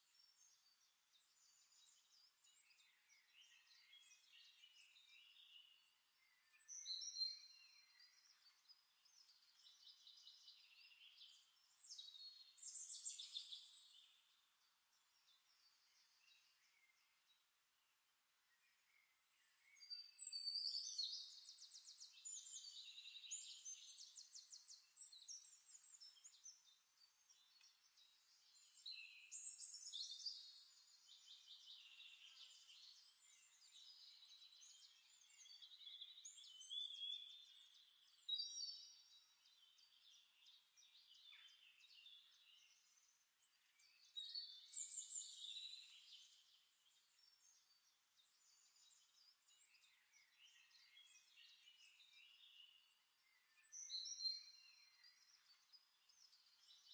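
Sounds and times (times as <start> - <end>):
faint bird chirps and trills: 0.0 - 56.9.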